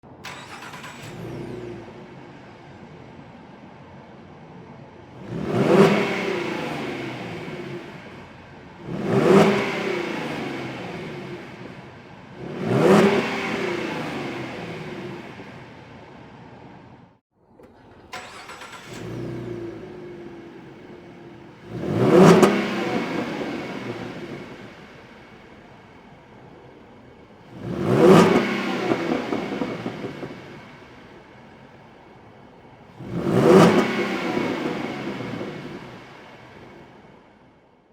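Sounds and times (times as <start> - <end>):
car engine revving: 0.1 - 3.1, 5.1 - 16.0, 17.6 - 37.1.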